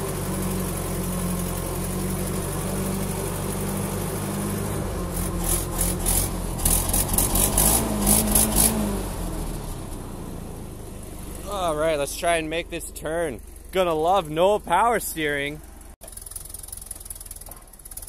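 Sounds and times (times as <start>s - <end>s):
forklift engine idling: 0.0s - 18.0s.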